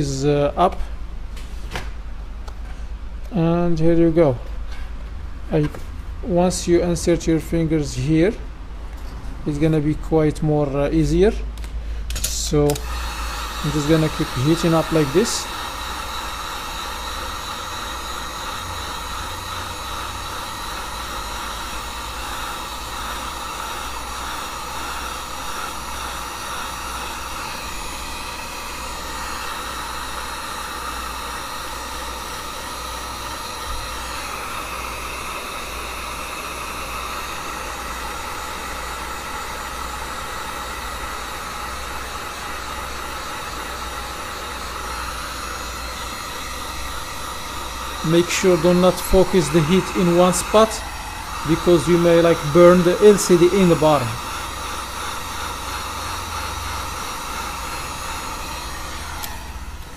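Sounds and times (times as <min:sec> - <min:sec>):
hot-air blower running: 0:00.0 - 0:59.9.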